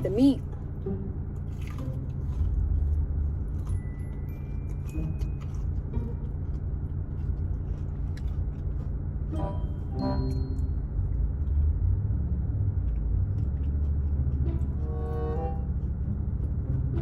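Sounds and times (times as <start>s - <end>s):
steady low rumble: 0.0s - 17.0s
chewing crispy food: 0.4s - 17.0s.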